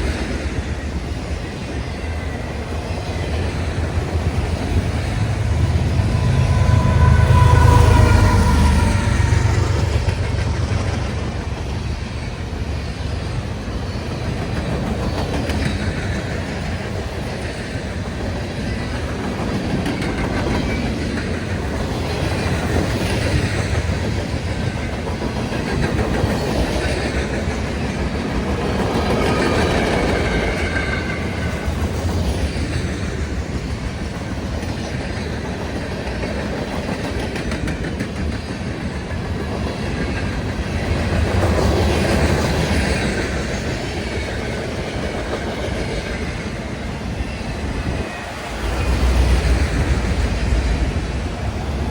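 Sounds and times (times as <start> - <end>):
freight train cars rolling: 0.0 - 51.9
wheels clacking over rail joints: 0.0 - 51.9.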